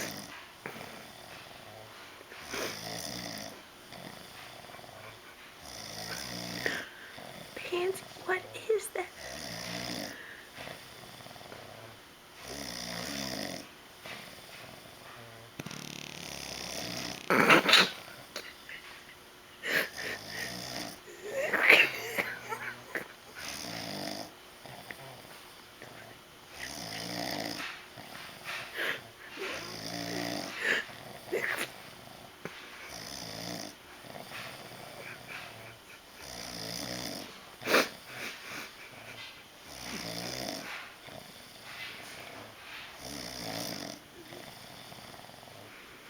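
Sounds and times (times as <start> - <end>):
man snoring: 0.0 - 5.0, 5.6 - 8.5, 9.1 - 13.7, 14.4 - 18.7, 19.6 - 41.7, 43.0 - 45.7.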